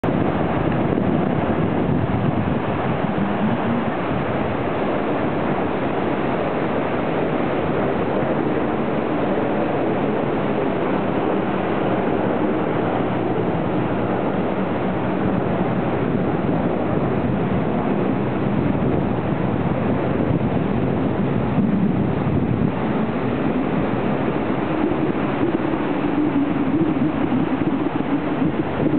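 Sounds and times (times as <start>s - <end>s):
ocean surf breaking: 0.0s - 28.9s
wind buffeting microphone: 0.0s - 28.9s.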